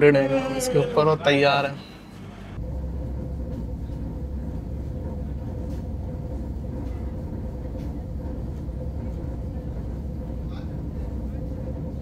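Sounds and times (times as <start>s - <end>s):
constant hum: 0.0s - 12.0s
train rumble: 0.0s - 12.0s.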